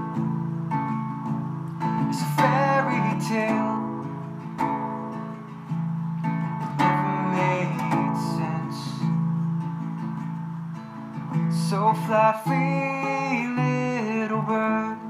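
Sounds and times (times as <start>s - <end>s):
acoustic guitar strummed slowly: 0.0s - 15.0s.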